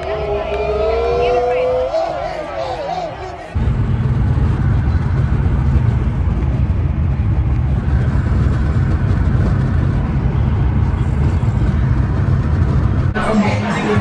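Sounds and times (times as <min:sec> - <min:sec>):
car road rumble: 0:00.0 - 0:14.0.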